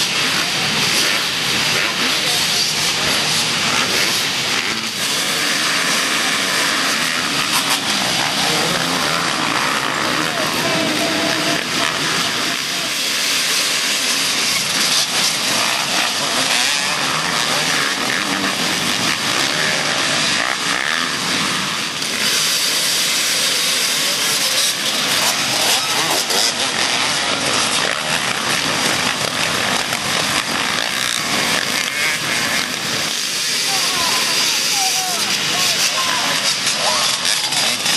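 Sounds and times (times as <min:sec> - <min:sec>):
motorcycle engines revving: 0:00.0 - 0:37.9
steady rushing noise: 0:00.0 - 0:37.9.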